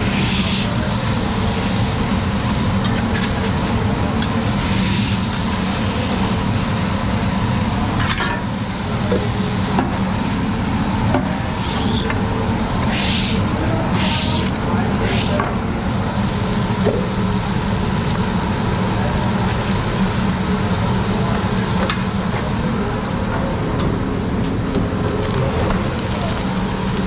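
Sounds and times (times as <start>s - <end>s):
patties sizzling on griddle: 0.0s - 22.7s, 25.2s - 27.0s.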